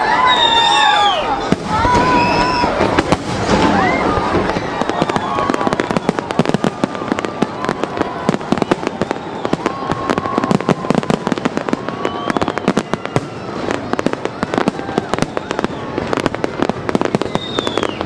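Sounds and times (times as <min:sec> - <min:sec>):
fireworks banging and popping: 0:01.4 - 0:18.0.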